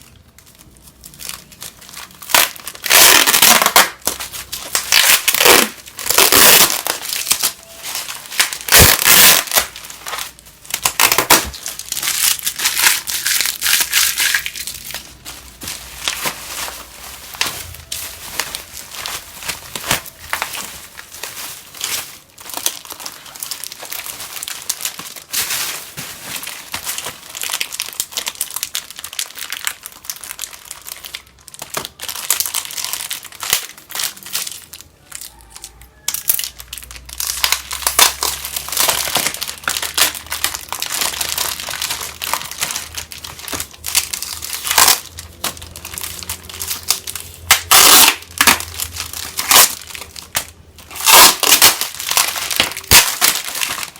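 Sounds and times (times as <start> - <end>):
packaging crinkling: 0.0 - 53.9.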